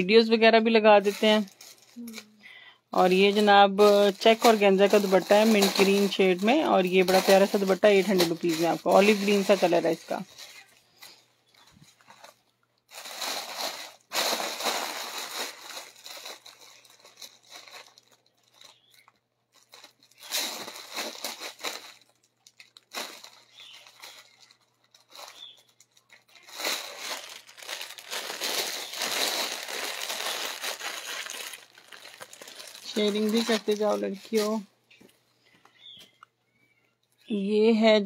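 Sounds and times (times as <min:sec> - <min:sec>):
plastic bags crinkling: 0:00.0 - 0:02.4, 0:03.0 - 0:34.7.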